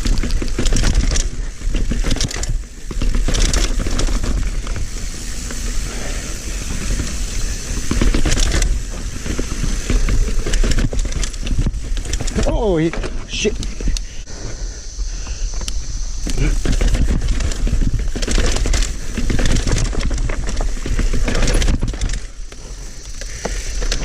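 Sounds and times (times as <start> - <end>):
bike tyres crunching on rocks: 0.0 - 14.0, 15.4 - 24.0
bike rattling: 0.0 - 24.0.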